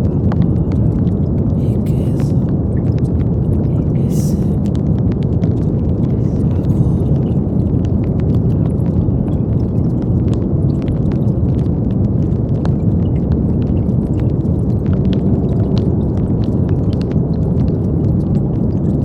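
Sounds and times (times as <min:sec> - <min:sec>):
brown noise: 0:00.0 - 0:19.0.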